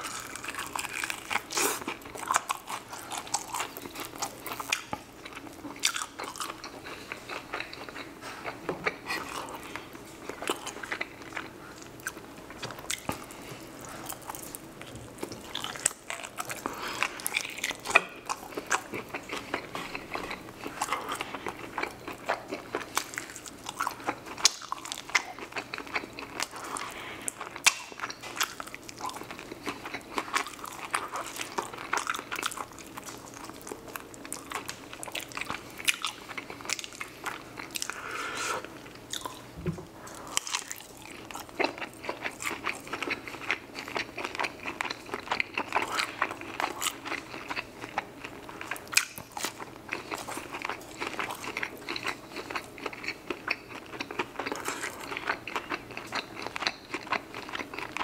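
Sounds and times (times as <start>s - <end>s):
chewing chicken wing: 0.0s - 58.0s.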